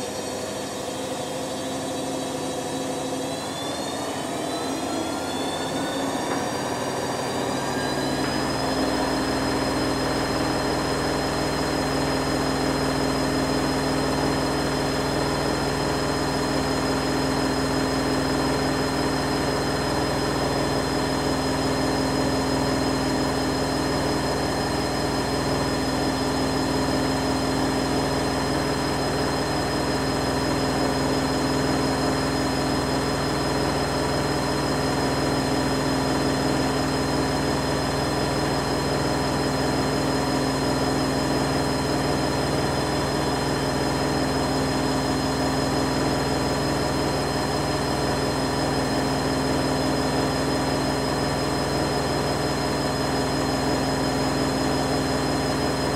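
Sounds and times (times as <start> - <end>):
washing machine spinning: 0.0 - 55.9.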